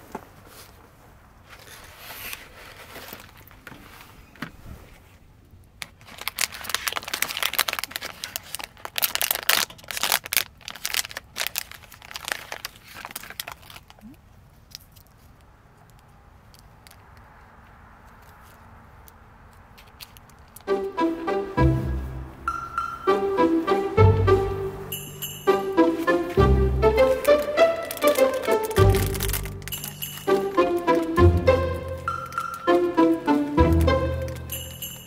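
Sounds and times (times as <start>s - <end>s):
crinkling and rustling by hand: 0.0s - 20.8s, 25.2s - 35.0s.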